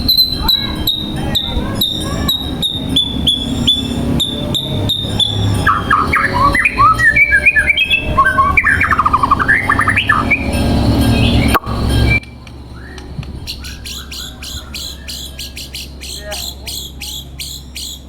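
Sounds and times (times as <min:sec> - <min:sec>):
bird singing: 0:00.0 - 0:18.0.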